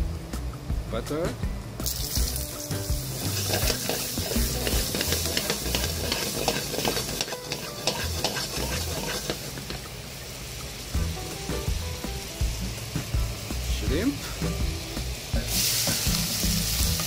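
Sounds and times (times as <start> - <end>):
butter sizzling in frying pan: 1.8 - 17.0.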